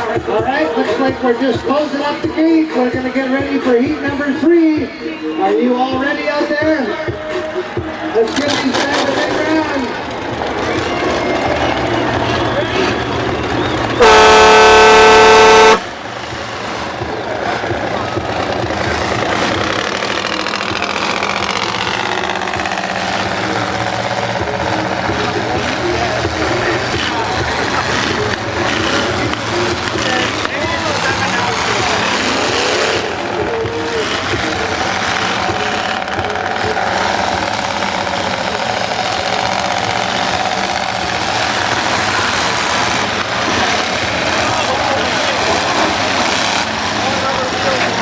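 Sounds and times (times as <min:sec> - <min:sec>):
car engines idling and revving: 0:00.0 - 0:48.0.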